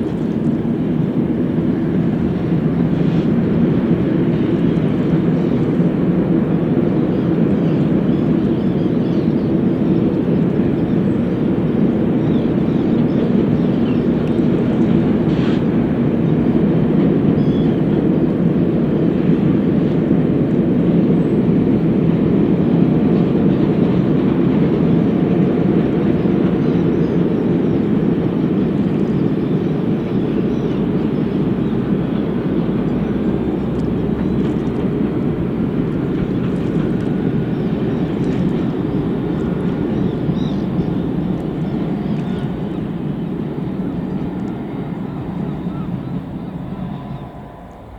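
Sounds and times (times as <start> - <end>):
train rumbling over steel bridge: 0.0 - 47.9.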